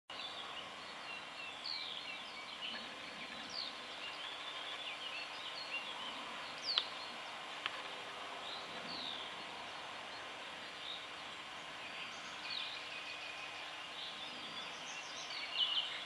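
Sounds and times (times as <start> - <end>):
background hiss: 0.1 - 16.0
small birds chirping: 0.1 - 16.0.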